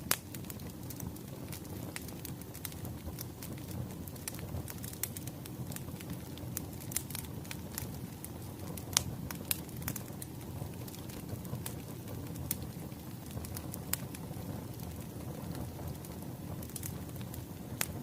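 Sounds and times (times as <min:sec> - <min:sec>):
firewood popping: 0:00.0 - 0:18.0
wood fire crackling: 0:00.0 - 0:18.0.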